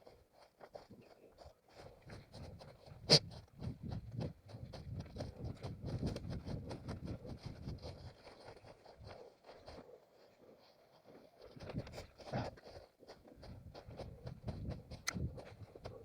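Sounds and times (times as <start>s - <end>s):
running footsteps on forest ground: 0.0s - 16.0s.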